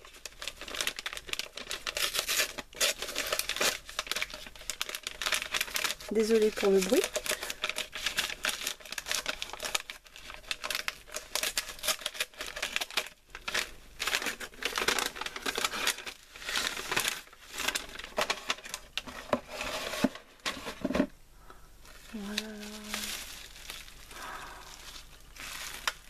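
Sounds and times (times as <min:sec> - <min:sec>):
gift wrapping crinkling: 0:00.0 - 0:26.0.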